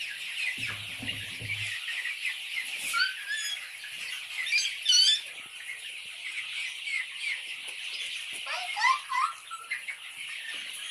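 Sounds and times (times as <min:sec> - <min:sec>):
chickens cheeping and chirping: 0:00.0 - 0:10.9.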